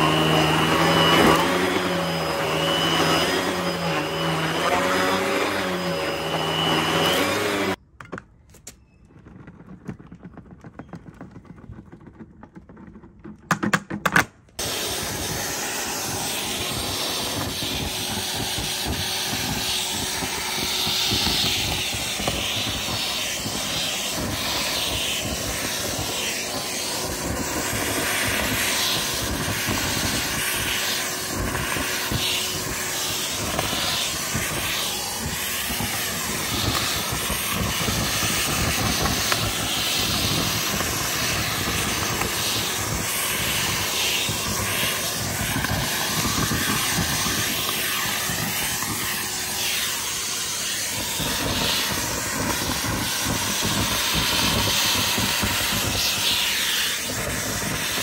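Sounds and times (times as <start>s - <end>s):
vacuum cleaner running: 0.0s - 7.8s, 14.6s - 58.0s.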